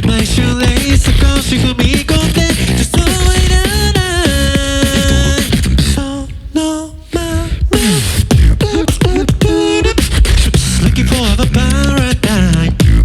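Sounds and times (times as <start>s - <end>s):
beatboxing drum clicks and bass: 0.0s - 6.4s, 7.2s - 13.0s.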